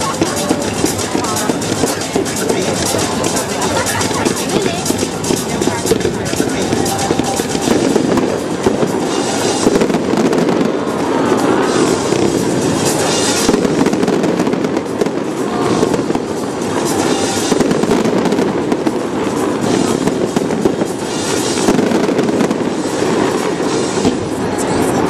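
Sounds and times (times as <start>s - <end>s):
dance music: 0.0s - 25.0s
fireworks bursting and crackling: 0.0s - 25.0s.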